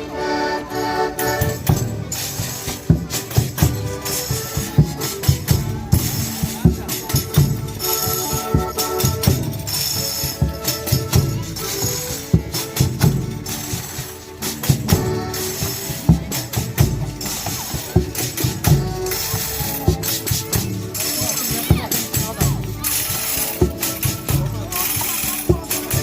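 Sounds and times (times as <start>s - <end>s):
folk band playing: 0.0s - 26.0s.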